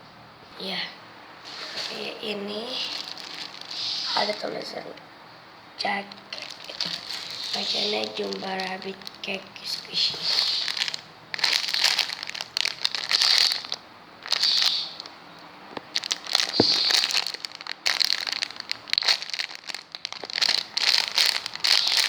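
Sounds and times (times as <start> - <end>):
plastic packaging crinkling: 1.5 - 4.5, 6.0 - 22.0.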